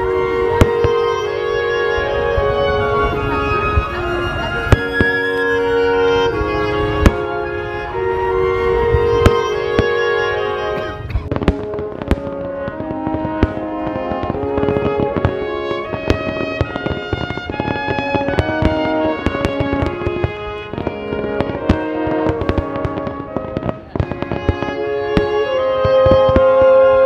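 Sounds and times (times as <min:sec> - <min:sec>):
fireworks bangs: 0:00.0 - 0:27.0
instrumental music with held notes: 0:00.0 - 0:27.0.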